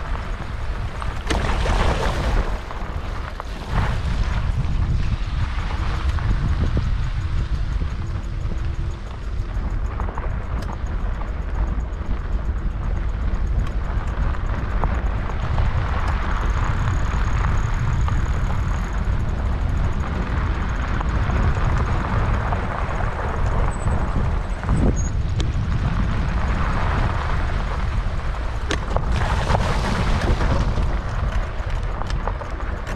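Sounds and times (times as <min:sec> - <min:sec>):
bicycle tyres on dirt track: 0:00.0 - 0:32.9
wind rumbling on microphone: 0:00.0 - 0:32.9
small ticks: 0:04.4 - 0:32.9.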